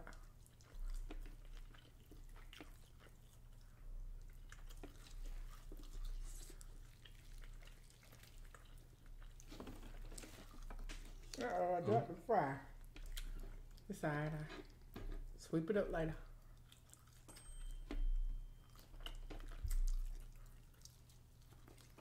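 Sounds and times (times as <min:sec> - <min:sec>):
people chewing meat: 0:00.0 - 0:15.4, 0:16.2 - 0:22.0.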